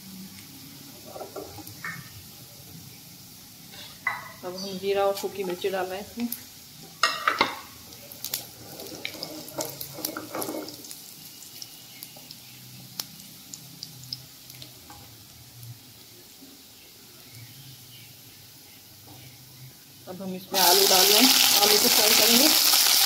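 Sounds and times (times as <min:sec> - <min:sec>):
oil sizzling and crackling: 0:00.0 - 0:23.0.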